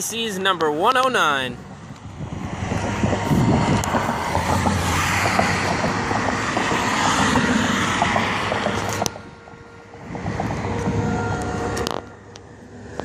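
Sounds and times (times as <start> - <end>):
diesel locomotives rumbling: 0.0 - 13.0
wind on microphone: 1.6 - 13.0.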